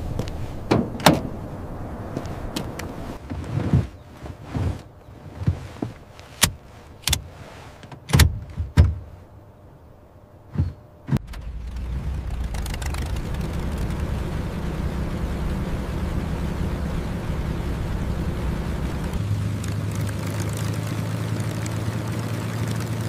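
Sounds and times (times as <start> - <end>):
steady low rumble: 0.0 - 7.4, 8.3 - 23.0.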